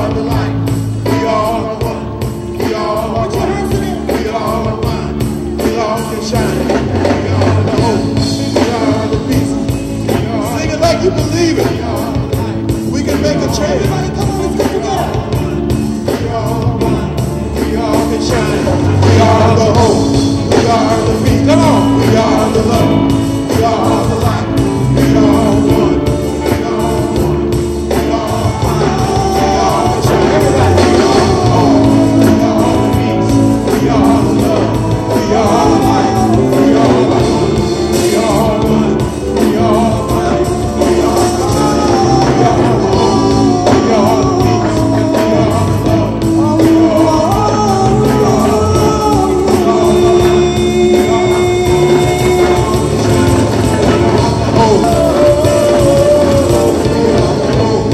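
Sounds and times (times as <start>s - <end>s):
group singing a chant-like song: 0.0s - 57.9s
live band with drum beat: 0.0s - 57.9s.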